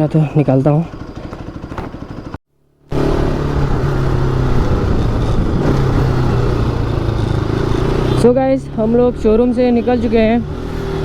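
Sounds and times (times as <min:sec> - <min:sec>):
motorcycle engine idling: 0:00.0 - 0:11.0
motorcycle engine while riding: 0:00.0 - 0:11.0
road noise: 0:00.0 - 0:11.0.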